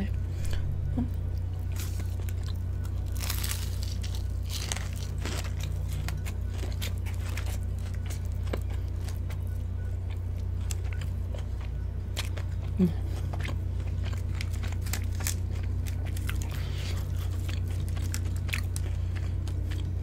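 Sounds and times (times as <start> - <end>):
steady low hum: 0.0 - 20.0
crunchy chewing of fried chicken: 1.2 - 20.0.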